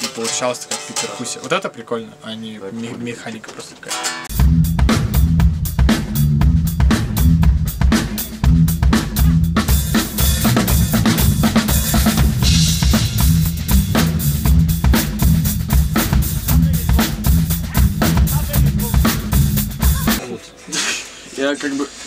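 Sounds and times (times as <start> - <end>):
drum kit playing rock beat: 0.0 - 1.5, 3.9 - 20.4.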